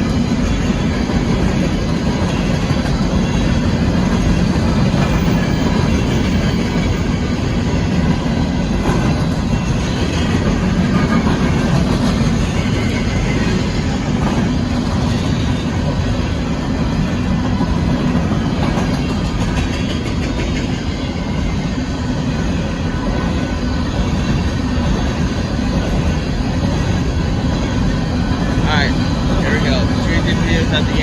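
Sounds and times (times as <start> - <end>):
freight train wheels rumbling on rails: 0.0 - 31.0.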